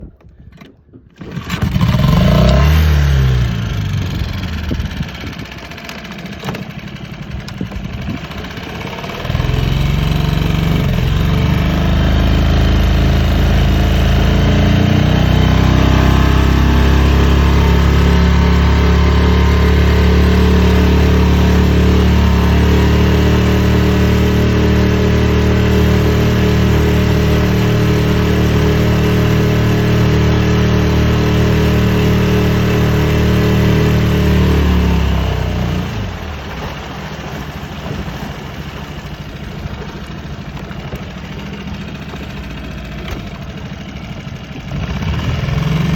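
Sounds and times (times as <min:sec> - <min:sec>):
outboard motor running: 0:00.0 - 0:45.9.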